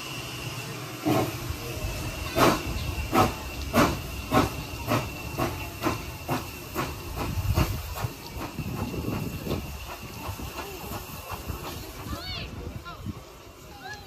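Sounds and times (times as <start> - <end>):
steam hissing: 0.0 - 14.0
steam locomotive exhaust beats: 0.0 - 14.0.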